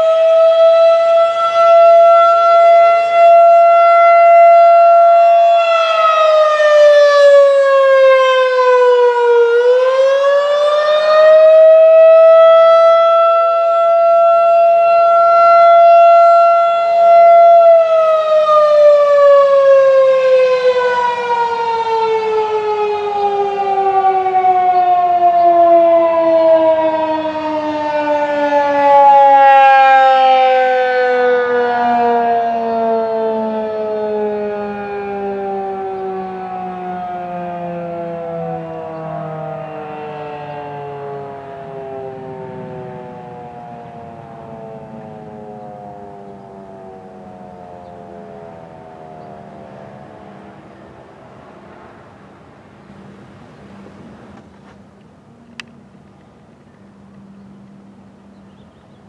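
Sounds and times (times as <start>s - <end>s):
warning siren: 0.0s - 56.1s, 56.8s - 59.0s.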